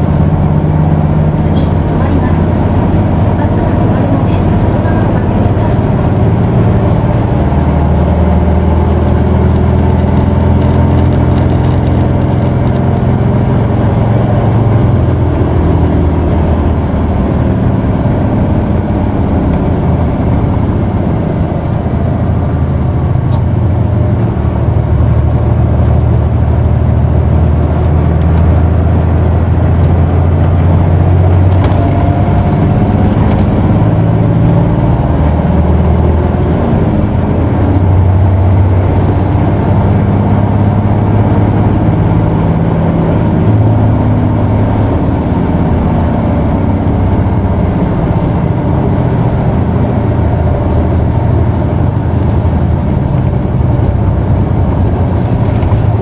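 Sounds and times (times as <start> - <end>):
bus diesel engine driving: 0.0 - 56.0.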